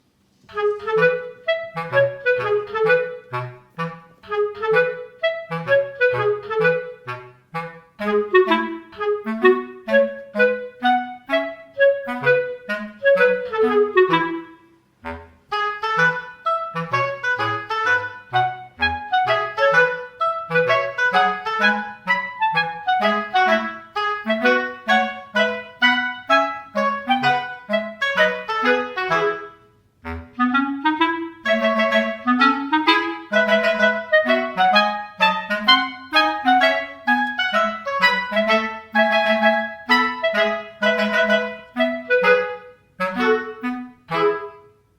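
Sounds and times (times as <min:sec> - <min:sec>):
bouncy instrumental music: 0:00.4 - 0:44.9.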